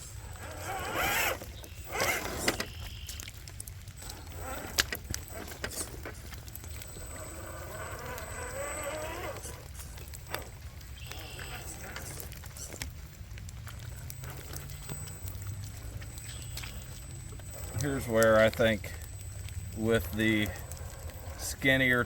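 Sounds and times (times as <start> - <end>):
clicks of tires on rock: 0.0 - 22.0
electric motor whining: 0.0 - 22.0.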